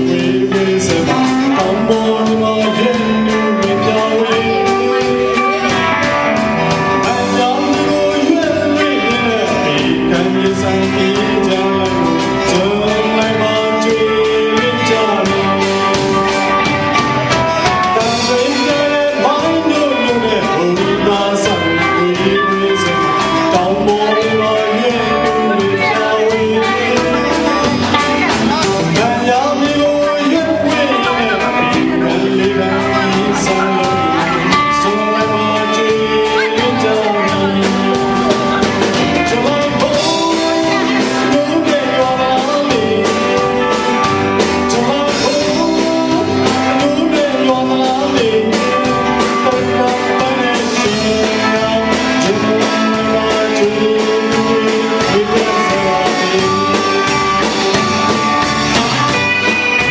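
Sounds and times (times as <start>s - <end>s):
band accompaniment with steady beat: 0.0s - 59.9s
person singing a melody: 0.0s - 59.9s.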